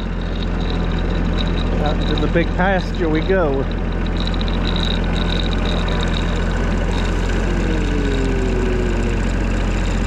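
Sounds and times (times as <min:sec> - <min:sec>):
riding lawn mower engine: 0:00.0 - 0:10.0.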